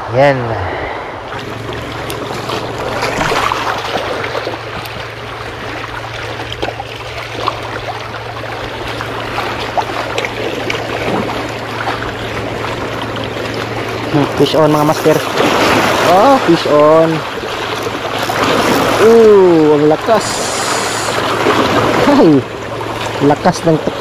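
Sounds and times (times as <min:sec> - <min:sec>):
steady low hum: 0:00.0 - 0:24.0
water lapping against rocks: 0:00.6 - 0:24.0.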